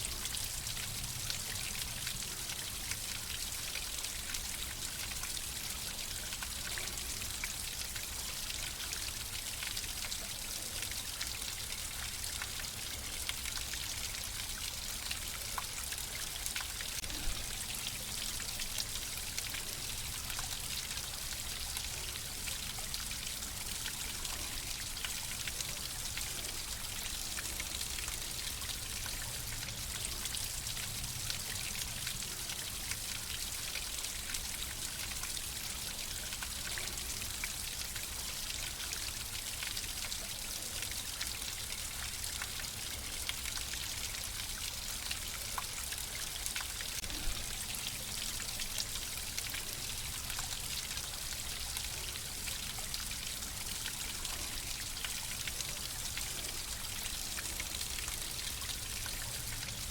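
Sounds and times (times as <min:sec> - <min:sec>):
flowing water with splashes: 0:00.0 - 0:59.9.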